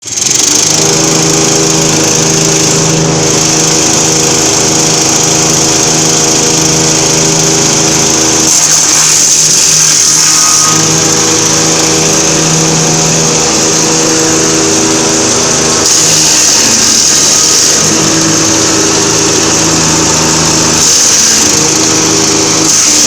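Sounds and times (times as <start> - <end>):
wood chipper engine running: 0.0 - 23.0.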